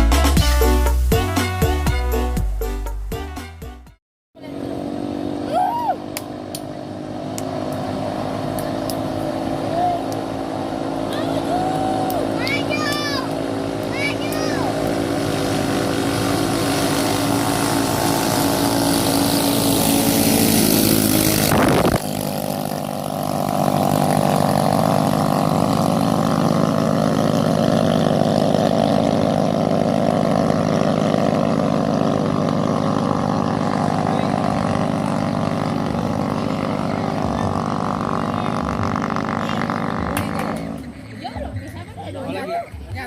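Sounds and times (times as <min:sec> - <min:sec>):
racing boat engines droning: 0:04.4 - 0:43.0.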